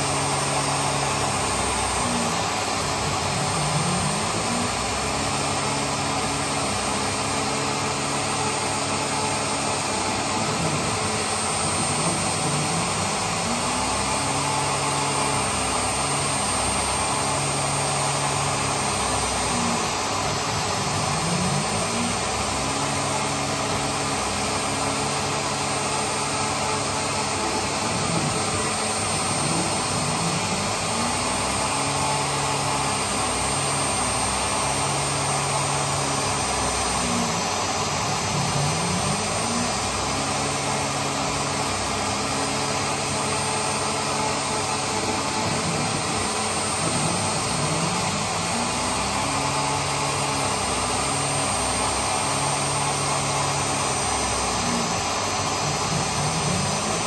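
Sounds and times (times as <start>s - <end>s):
router spindle whirring: 0.0s - 57.0s.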